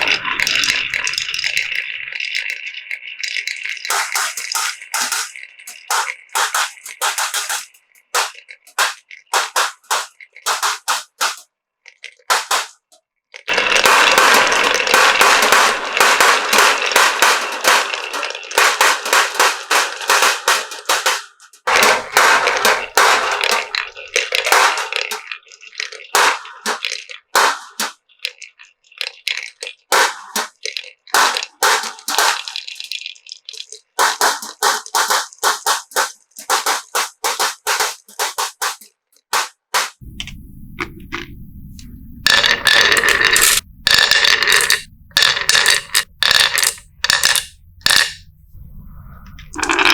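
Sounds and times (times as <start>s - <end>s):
marbles rolling and clacking: 0.0s - 39.3s, 39.9s - 49.9s.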